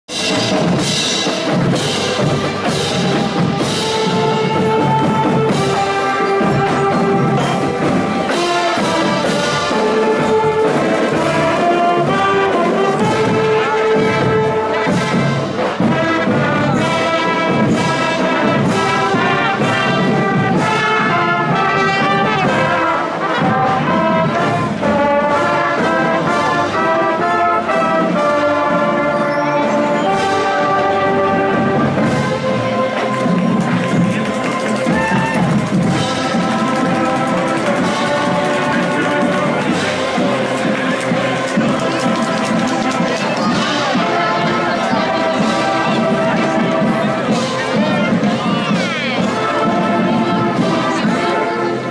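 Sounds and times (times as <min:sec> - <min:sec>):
marching band playing: 0:00.1 - 0:51.9.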